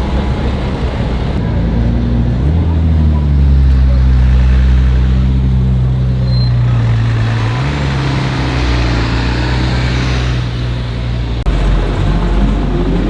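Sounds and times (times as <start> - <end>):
street traffic noise: 0.0 - 13.0
vehicle engine running: 0.0 - 13.0.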